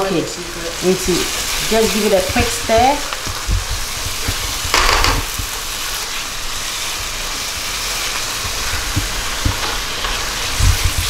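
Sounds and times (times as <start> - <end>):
stew sizzling in oil: 0.0 - 11.0
spatula stirring pot: 1.4 - 11.0.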